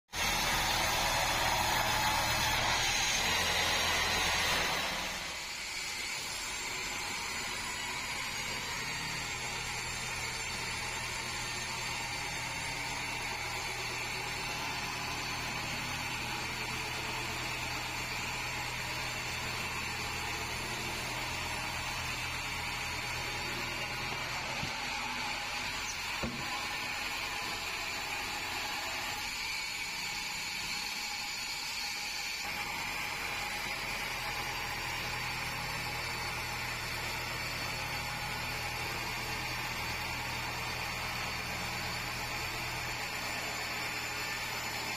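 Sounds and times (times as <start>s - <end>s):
band saw whine and hum: 0.2s - 44.9s.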